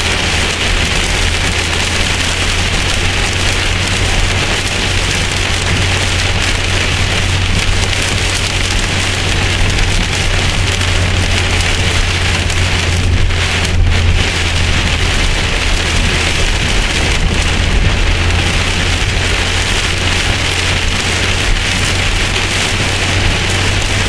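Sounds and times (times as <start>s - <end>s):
heavy rain on car windshield: 0.0s - 24.0s
low car hum: 0.0s - 24.0s.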